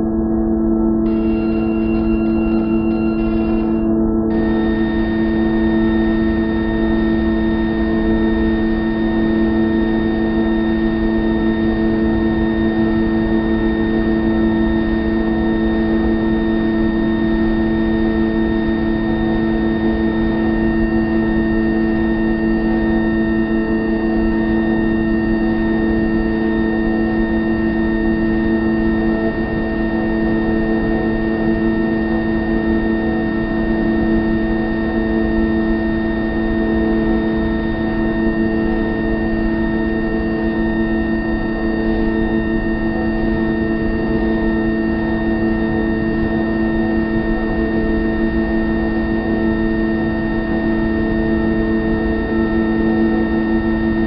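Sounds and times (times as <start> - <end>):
steady drone of held tones: 0.0 - 54.0.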